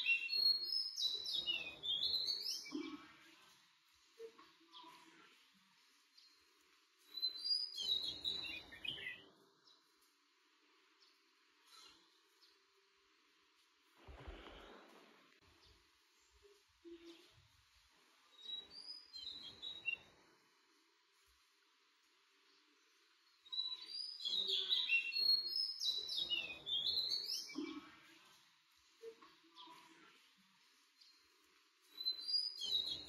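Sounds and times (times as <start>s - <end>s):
small birds twittering: 0.0s - 10.1s, 14.0s - 20.2s, 22.5s - 33.0s.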